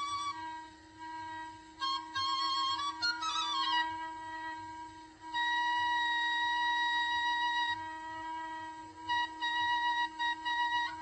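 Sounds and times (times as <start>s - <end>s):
flute melody: 0.0s - 11.0s.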